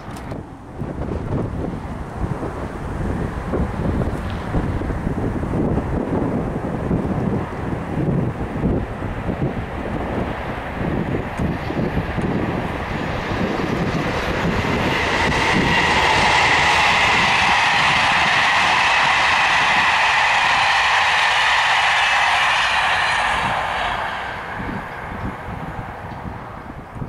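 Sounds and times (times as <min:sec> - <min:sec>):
train wheels rolling on rails: 0:00.0 - 0:27.0
wind on microphone: 0:00.0 - 0:27.0.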